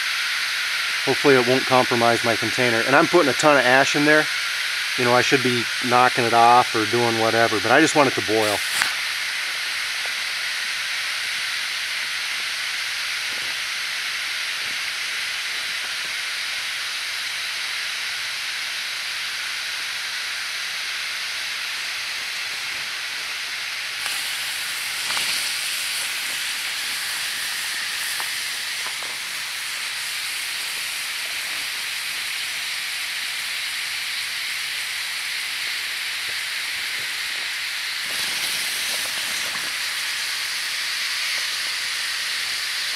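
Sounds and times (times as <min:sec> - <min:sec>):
hot stones hissing in water: 0:00.0 - 0:42.9.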